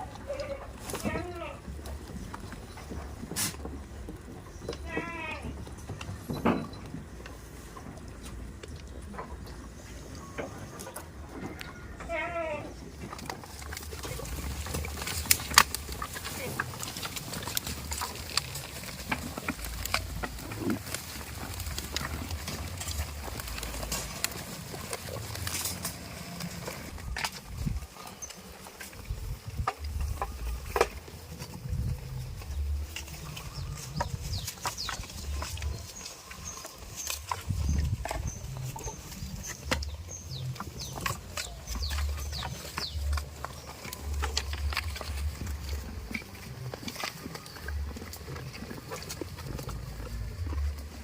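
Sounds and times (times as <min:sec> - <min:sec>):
goats' hooves clicking and knocking: 0:00.0 - 0:51.0
small birds chirping: 0:00.0 - 0:51.0.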